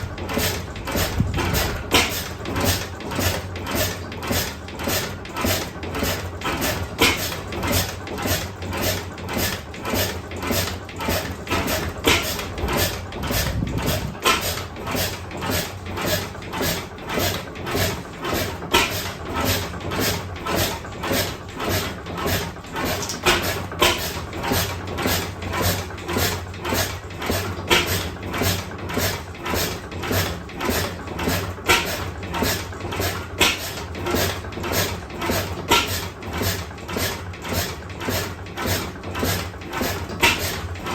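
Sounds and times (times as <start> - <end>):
stationary engine slow beat: 0.0 - 40.9.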